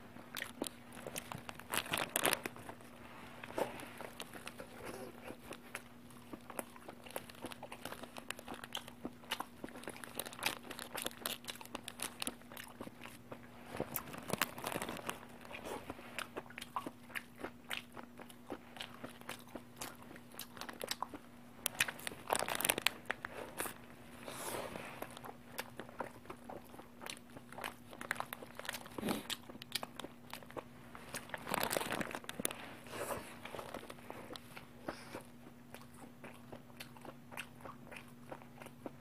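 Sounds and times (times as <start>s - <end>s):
faint steady hum: 0.0s - 39.0s
person chewing food: 0.0s - 39.0s.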